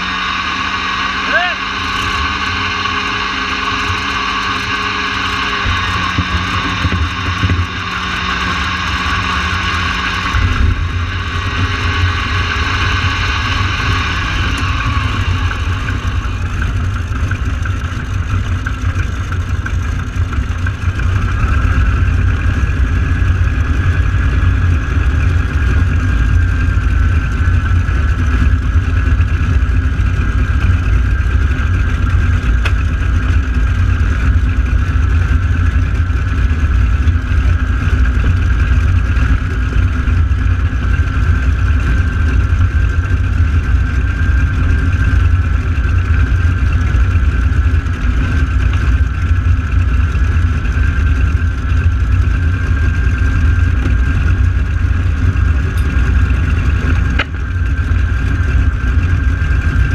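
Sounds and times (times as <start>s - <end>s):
aircraft piston engines rumbling: 0.0s - 59.9s.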